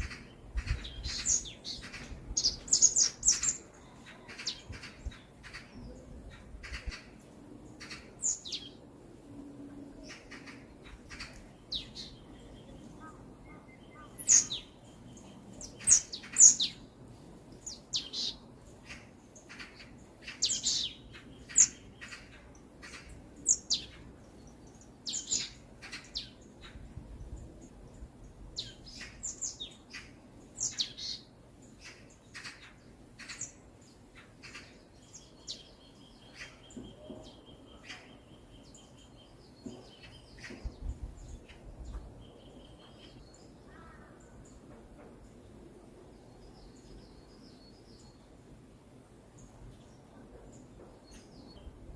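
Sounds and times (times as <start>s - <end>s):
small birds chirping: 0.0s - 8.8s, 10.0s - 44.7s.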